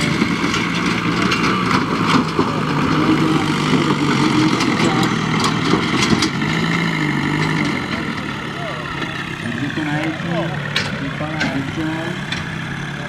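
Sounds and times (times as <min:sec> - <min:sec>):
tractor engine at low revs: 0:00.0 - 0:13.0.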